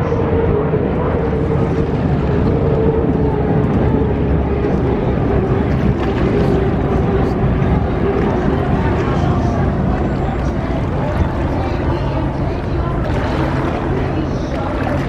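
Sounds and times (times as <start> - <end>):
turbine boat engines roaring: 0.0 - 15.0.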